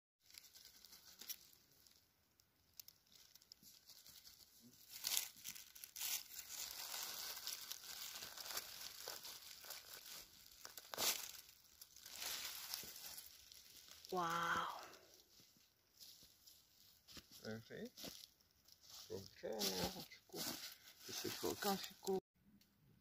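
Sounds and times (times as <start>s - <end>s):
rustling of dry leaf litter: 0.2s - 22.2s.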